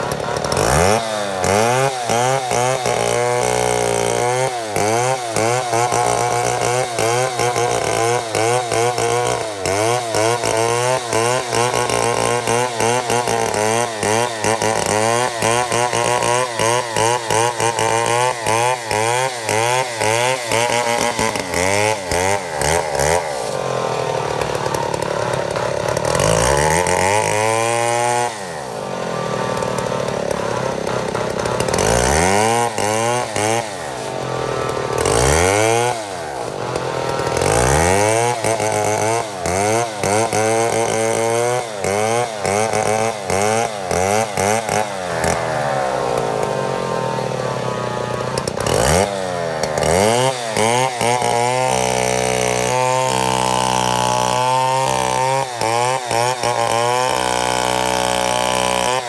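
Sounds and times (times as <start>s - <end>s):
chainsaw milling a log: 0.0s - 59.0s.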